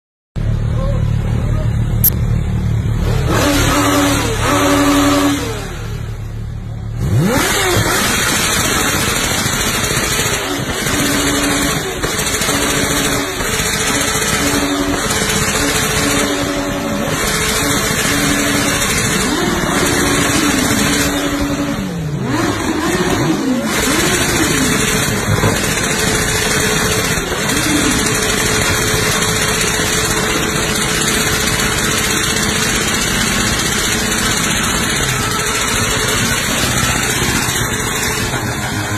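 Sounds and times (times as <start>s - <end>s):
motorcycle engine revving: 0.4s - 38.9s.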